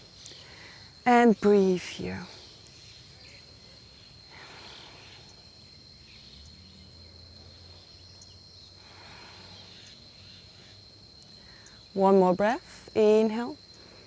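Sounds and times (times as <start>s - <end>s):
faint insect chirps: 0.0s - 14.0s.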